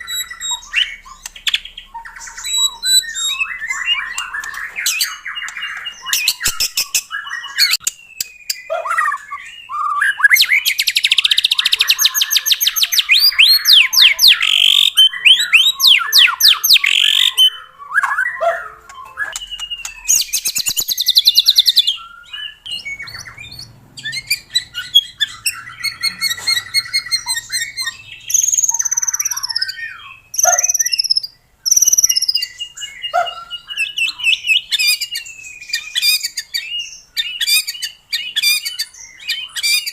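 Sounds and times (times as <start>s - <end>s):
songbird singing varied song: 0.0s - 39.9s.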